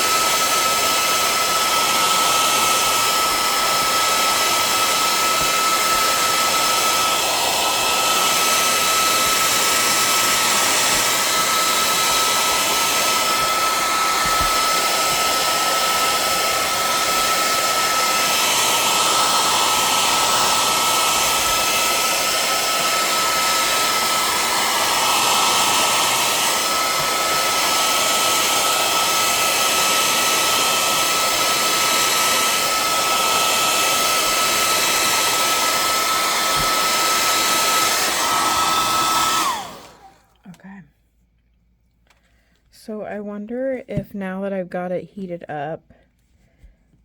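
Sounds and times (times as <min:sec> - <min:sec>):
hair dryer spinning down: 0:00.0 - 0:40.4
hair dryer running: 0:00.0 - 0:40.5.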